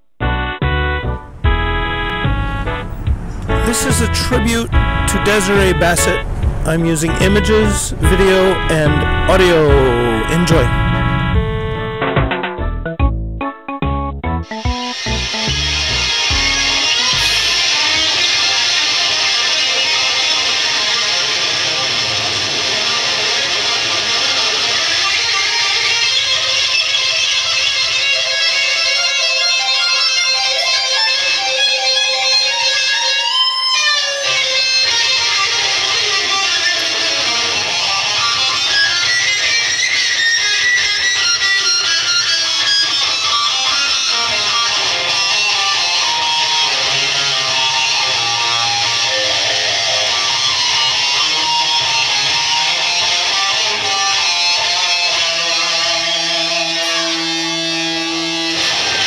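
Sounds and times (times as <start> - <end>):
electric guitar rock instrumental: 0.2 - 59.0.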